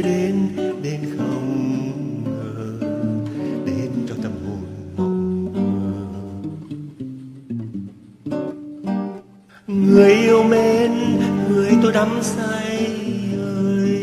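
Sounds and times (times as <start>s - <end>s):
man singing with vibrato: 0.0s - 7.1s, 9.5s - 14.0s
acoustic guitar tango melody: 0.0s - 14.0s.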